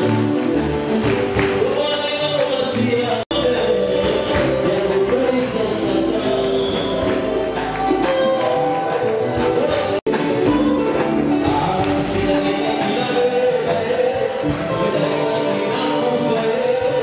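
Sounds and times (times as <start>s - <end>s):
group of singers: 0.0s - 17.0s
steady percussion beat: 0.0s - 17.0s
man singing into a microphone: 1.5s - 17.0s.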